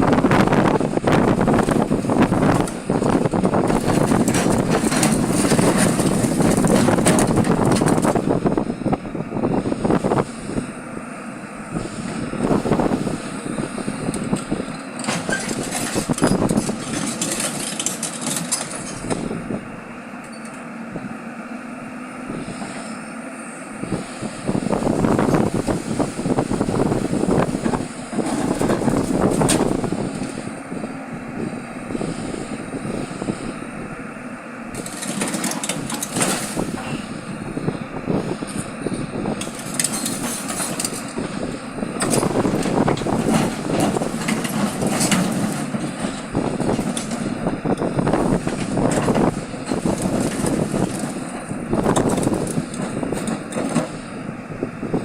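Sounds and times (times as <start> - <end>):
heavy loading machinery running: 0.0 - 55.0.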